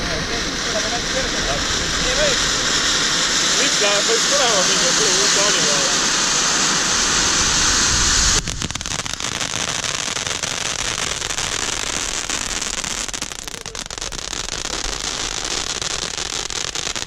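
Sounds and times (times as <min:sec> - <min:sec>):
firework fountains crackling: 0:00.0 - 0:17.0.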